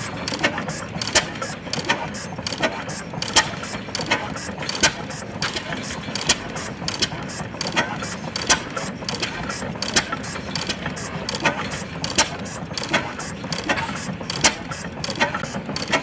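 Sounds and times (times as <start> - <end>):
stationary gas engine clattering: 0.0 - 16.0.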